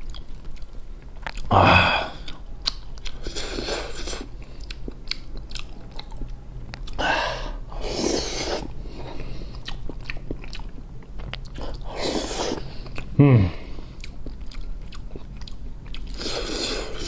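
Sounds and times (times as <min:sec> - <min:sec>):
close wet chewing: 0:00.0 - 0:01.5, 0:02.1 - 0:07.2, 0:07.9 - 0:13.2, 0:13.9 - 0:17.0.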